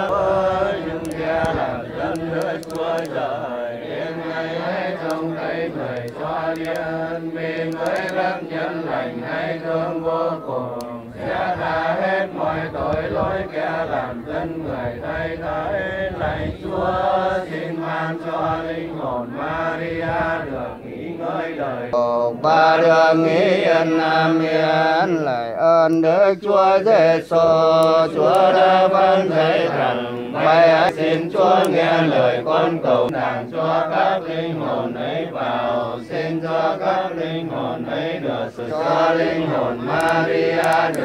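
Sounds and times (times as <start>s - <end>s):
congregation chanting a prayer: 0.0s - 41.0s.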